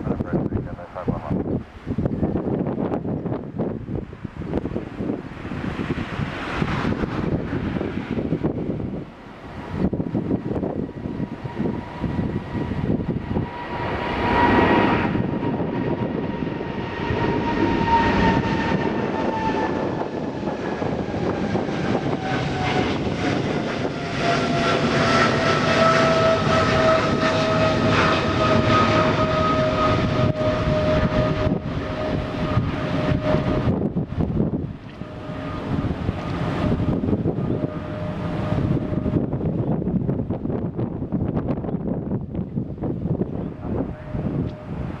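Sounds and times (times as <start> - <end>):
jet engine whine: 0.0 - 45.0
jet engines rumbling: 0.0 - 45.0.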